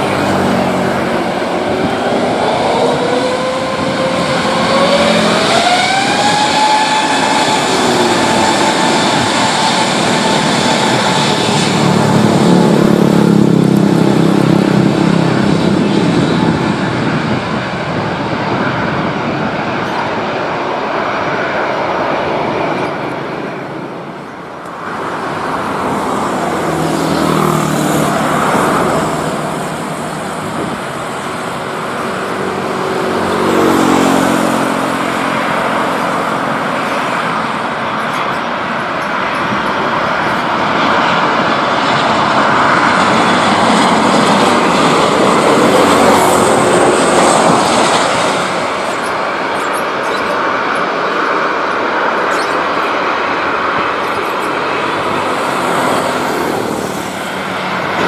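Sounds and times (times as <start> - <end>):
jet engine roar: 0.0 - 58.0.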